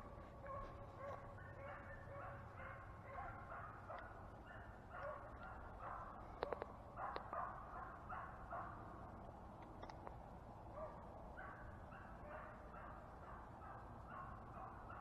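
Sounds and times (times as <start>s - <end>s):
distant hounds baying: 0.0s - 9.2s, 10.7s - 15.0s.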